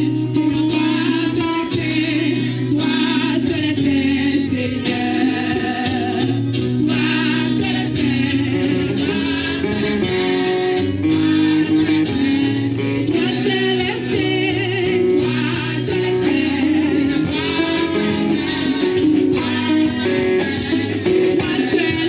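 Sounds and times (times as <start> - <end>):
guitar backing: 0.0 - 22.0
voices singing gospel: 0.0 - 22.0.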